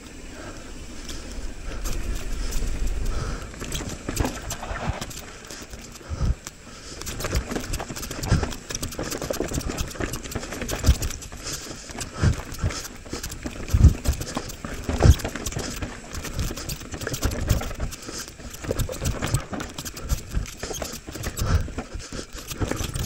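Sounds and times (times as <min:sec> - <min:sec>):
mountain bike clattering over rocks: 0:01.1 - 0:06.2, 0:06.9 - 0:23.0.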